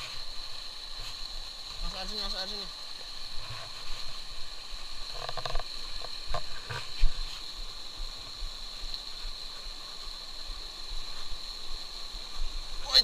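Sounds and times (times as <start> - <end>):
high-pitched insect drone: 0.0 - 13.0
stream water running: 0.0 - 13.0.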